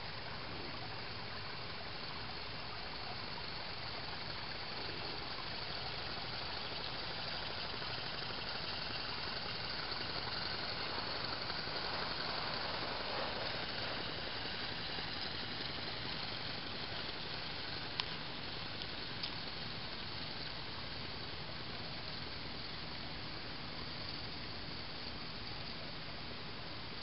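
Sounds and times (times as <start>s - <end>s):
steam locomotive hissing: 0.0s - 25.8s.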